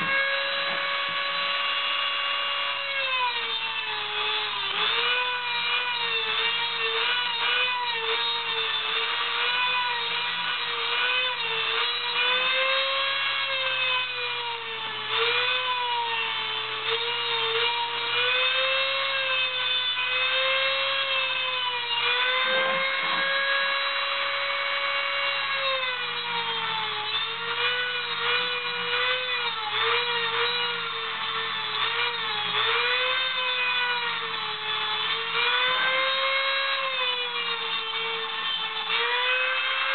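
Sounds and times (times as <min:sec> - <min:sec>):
rotary tool grinding metal: 0:00.0 - 0:39.9.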